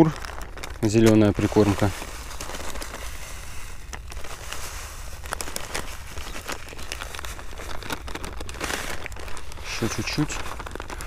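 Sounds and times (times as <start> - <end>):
dry bait pouring: 0.0 - 11.0
packet crinkling and rustling: 0.0 - 11.0.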